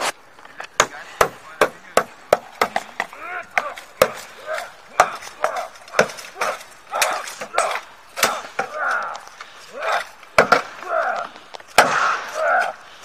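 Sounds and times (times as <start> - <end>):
swords clashing on wooden shield: 0.8 - 9.1, 9.8 - 12.7.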